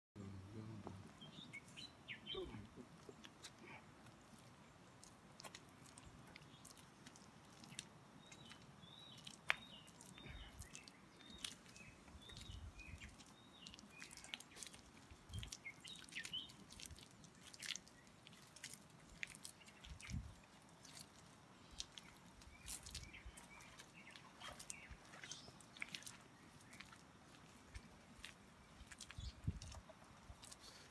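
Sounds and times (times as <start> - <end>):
small birds chirping: 0.2 - 30.9.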